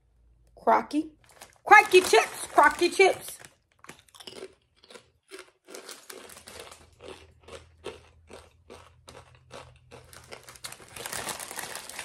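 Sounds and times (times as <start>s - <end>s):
person chewing potato chips: 1.2s - 12.0s.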